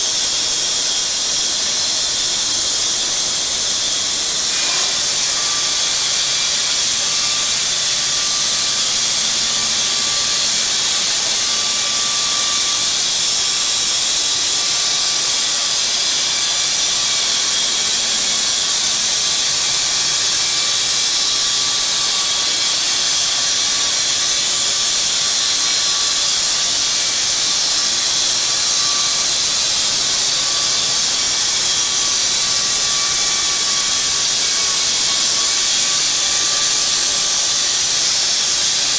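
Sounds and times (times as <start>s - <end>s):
bandsaw mill hissing: 0.0s - 38.9s.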